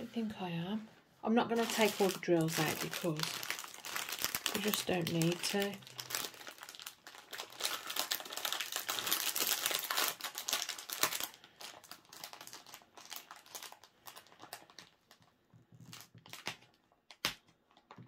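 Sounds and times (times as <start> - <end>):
thin plastic crinkling: 1.4 - 18.0.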